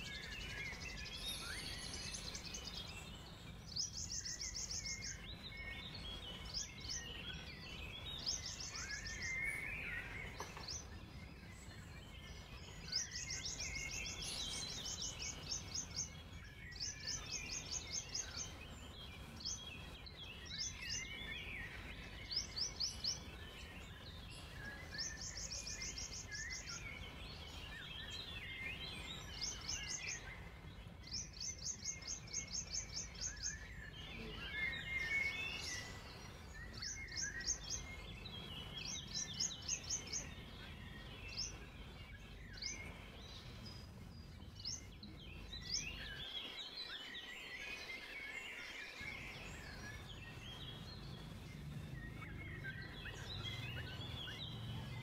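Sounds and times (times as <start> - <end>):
birds chirping and warbling: 0.0 - 55.0.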